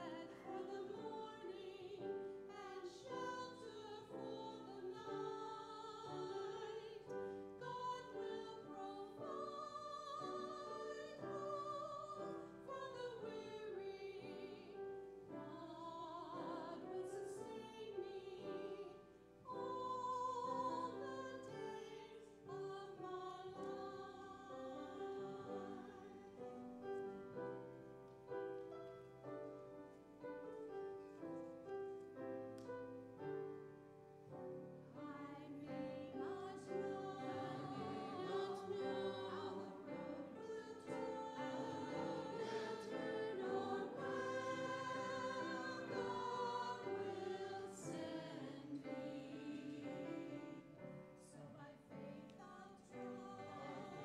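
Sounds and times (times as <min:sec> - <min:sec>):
classical sacred singing: 0:00.0 - 0:33.4, 0:34.6 - 0:54.0
piano: 0:00.0 - 0:54.0.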